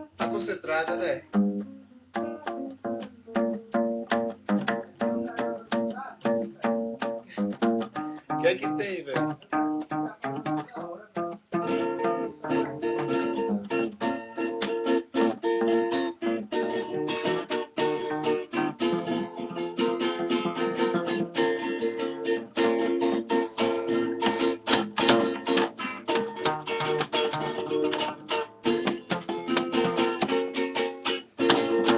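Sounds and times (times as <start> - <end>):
acoustic bass guitar: 0.0 - 31.9
acoustic guitar strumming: 0.0 - 31.9.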